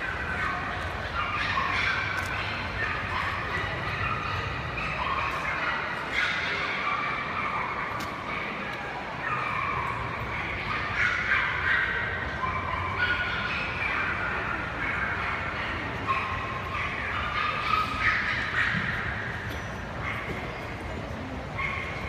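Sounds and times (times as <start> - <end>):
dogs barking: 0.0 - 22.0.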